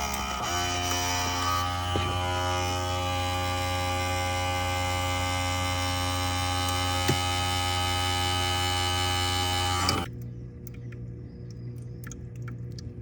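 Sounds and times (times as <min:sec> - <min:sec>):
loud hum with overtones: 0:00.0 - 0:11.6.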